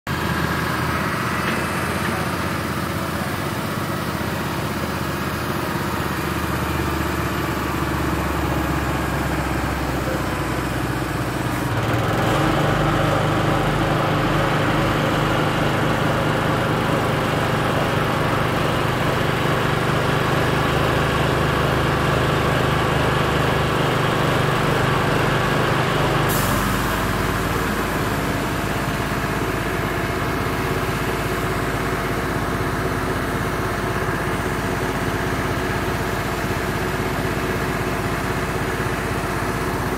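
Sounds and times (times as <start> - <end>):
diesel engine running: 0.1 - 39.9.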